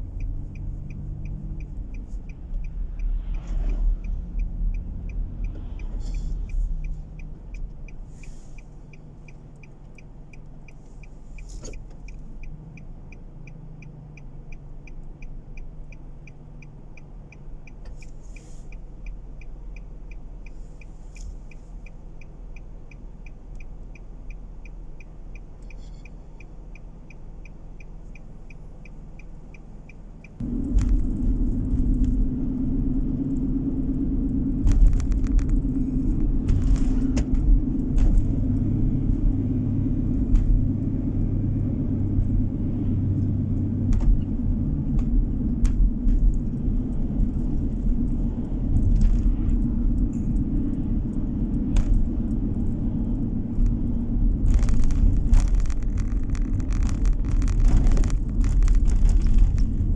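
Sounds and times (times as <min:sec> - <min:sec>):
car engine idling: 0:00.0 - 0:59.9
turn signal ticking: 0:00.0 - 0:59.9.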